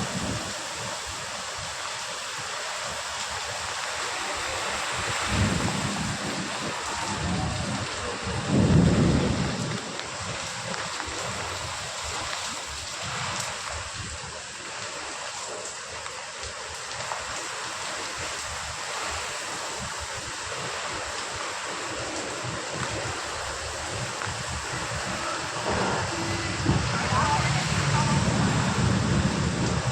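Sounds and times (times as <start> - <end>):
wind buffeting microphone: 0.0 - 14.4, 19.8 - 29.9
heavy rain pouring: 0.0 - 29.9.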